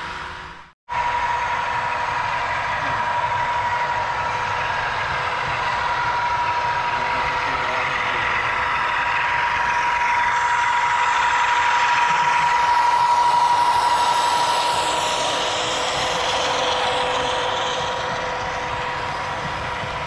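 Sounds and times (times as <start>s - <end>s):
model train diesel engine sound: 0.0s - 20.0s
steady high whine: 0.0s - 20.0s.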